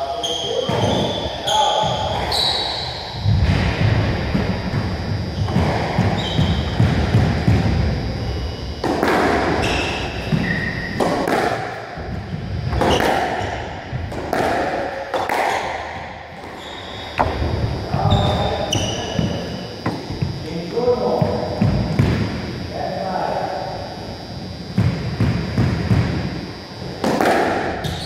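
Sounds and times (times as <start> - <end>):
squash ball hitting racquets and walls: 0.4 - 20.4, 24.7 - 28.0.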